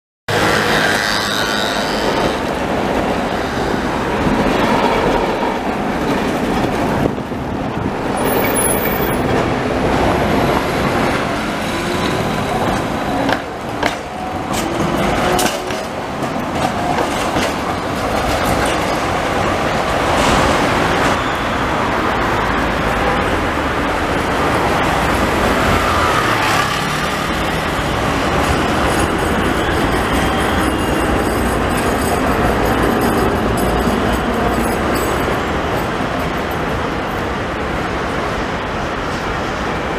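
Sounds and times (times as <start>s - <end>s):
cars and motorbikes: 0.3s - 17.6s, 18.3s - 39.9s
tram wheels rumbling on rails: 0.3s - 39.9s.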